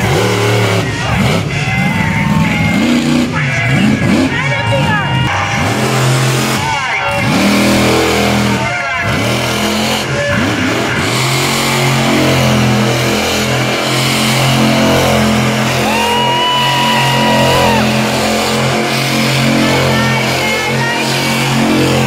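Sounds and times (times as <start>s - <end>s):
truck engine revving hard: 0.0s - 22.0s.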